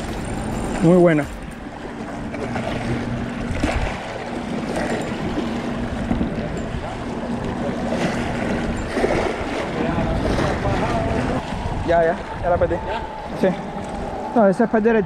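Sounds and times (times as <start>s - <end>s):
steady low hum: 0.0s - 15.0s
wind on microphone: 0.0s - 15.0s.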